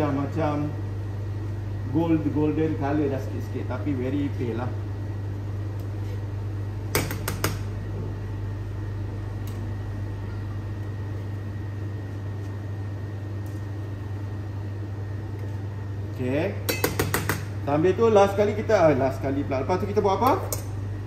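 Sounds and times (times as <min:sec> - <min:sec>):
extractor hood fan humming: 0:00.0 - 0:21.0.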